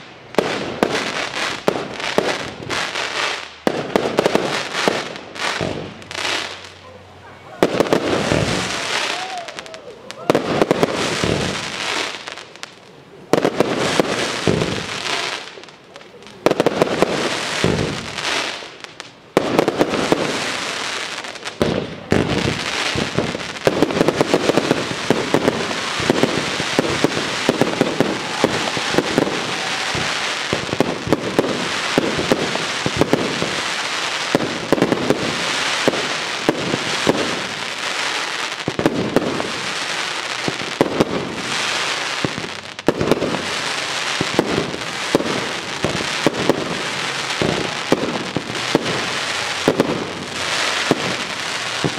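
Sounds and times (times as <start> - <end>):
rapid fireworks barrage: 0.0 - 6.8, 7.5 - 51.9
fireworks bangs: 0.0 - 51.9.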